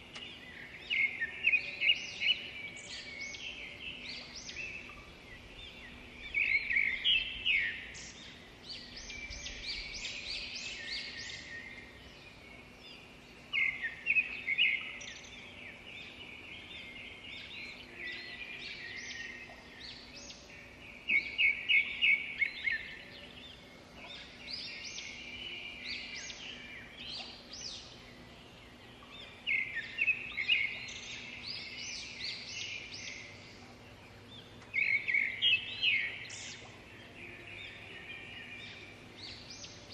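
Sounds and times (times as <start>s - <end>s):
outdoor background noise: 0.0s - 39.9s
songbird singing: 0.0s - 39.9s.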